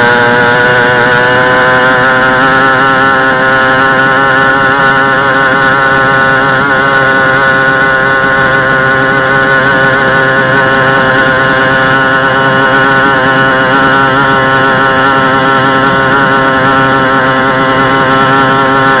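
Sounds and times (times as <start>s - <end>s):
boat engine running flat out: 0.0s - 19.0s.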